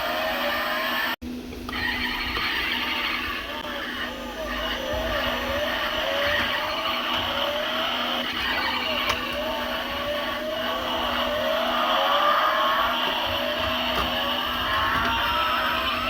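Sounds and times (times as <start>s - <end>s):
engine-like whine rising in pitch: 0.0s - 16.0s
low hum: 0.0s - 16.0s.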